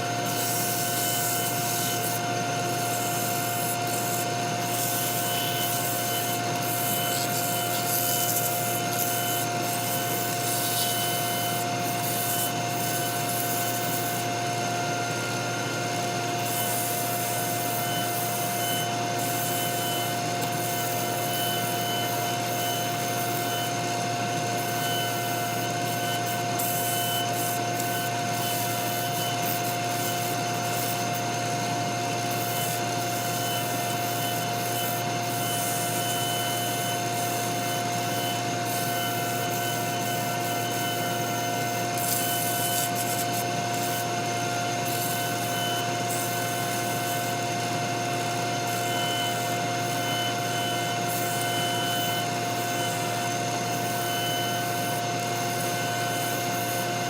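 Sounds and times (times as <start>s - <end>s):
tool hissing against spinning wood: 0.0s - 57.0s
wood lathe running: 0.0s - 57.0s.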